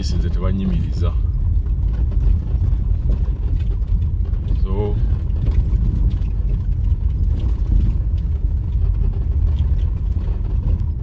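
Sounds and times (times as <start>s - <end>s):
vehicle road rumble: 0.0s - 11.0s.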